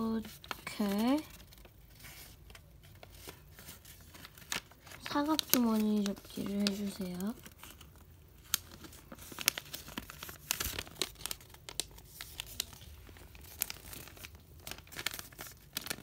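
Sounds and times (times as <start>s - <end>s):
paper crinkling while folded: 0.0s - 16.0s
sharp paper crackles: 0.1s - 16.0s.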